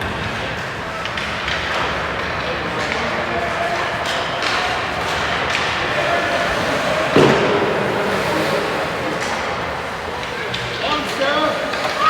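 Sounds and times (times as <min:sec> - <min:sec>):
skating and play hubbub: 0:00.0 - 0:12.0.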